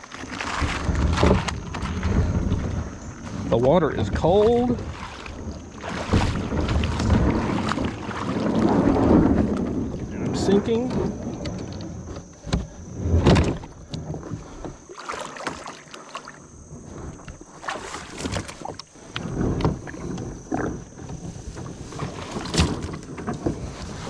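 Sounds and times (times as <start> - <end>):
knocks and scrapes on kayak hull: 0.0 - 24.0
water splashing and sloshing: 0.0 - 24.0.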